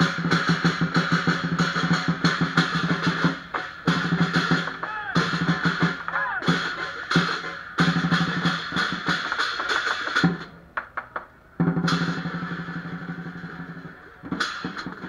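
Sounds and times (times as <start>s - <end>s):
drum cymbals and gong beating: 0.0s - 10.6s, 11.6s - 15.0s.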